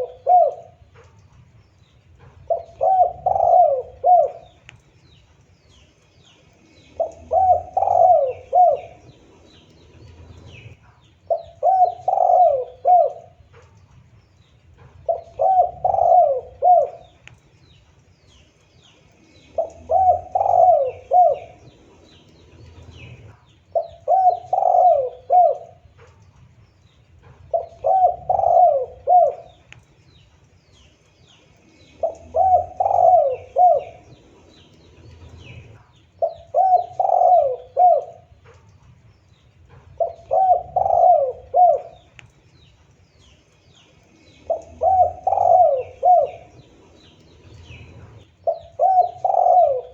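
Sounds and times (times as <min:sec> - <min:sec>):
dove cooing: 0:00.0 - 0:04.8, 0:06.6 - 0:17.4, 0:19.4 - 0:26.2, 0:27.2 - 0:29.8, 0:31.6 - 0:49.9.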